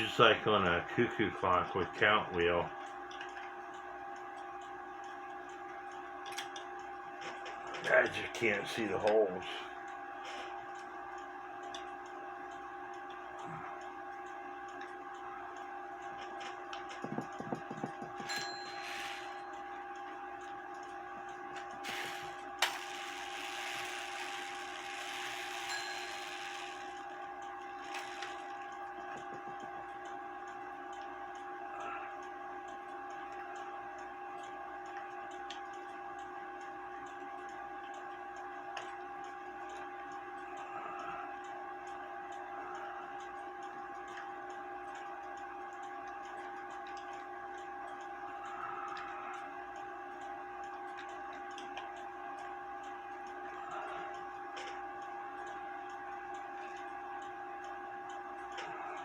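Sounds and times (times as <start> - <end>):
faint hum: 0.0 - 59.0
mechanical clock ticking: 10.6 - 31.5, 32.1 - 59.0.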